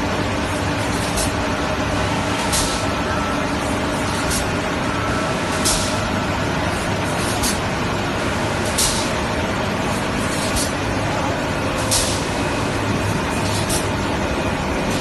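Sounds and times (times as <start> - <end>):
loud machine hum: 0.0 - 15.0.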